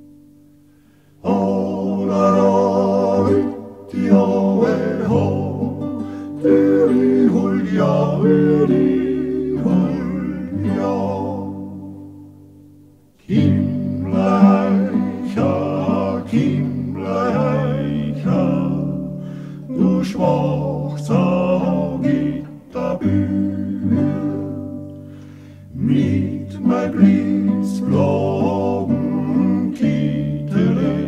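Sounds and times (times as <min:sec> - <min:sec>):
acoustic guitar: 0:00.0 - 0:31.0
male vocal group singing folk song: 0:01.2 - 0:12.2, 0:13.2 - 0:31.0.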